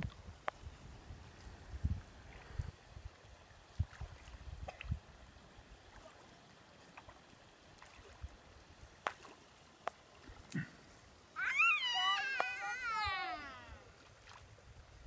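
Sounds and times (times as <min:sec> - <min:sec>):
child wading through water: 0:01.6 - 0:14.9.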